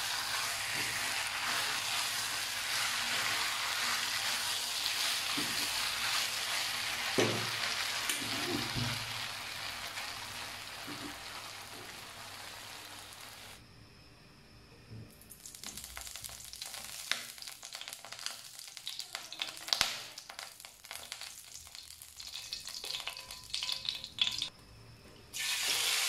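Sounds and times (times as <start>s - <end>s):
food sizzling in a wok: 0.0s - 13.6s, 15.4s - 24.5s, 25.4s - 26.0s.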